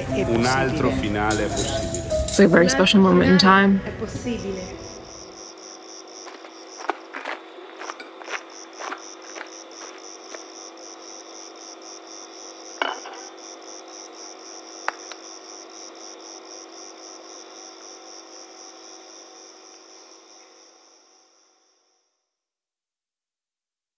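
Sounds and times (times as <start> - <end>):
crickets chirping: 0.0 - 22.4.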